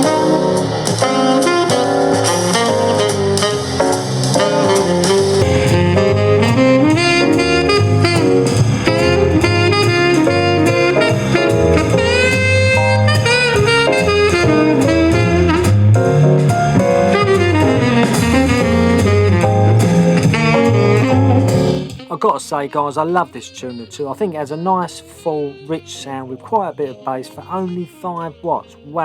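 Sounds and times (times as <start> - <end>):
smooth jazz with saxophone: 0.0 - 29.0.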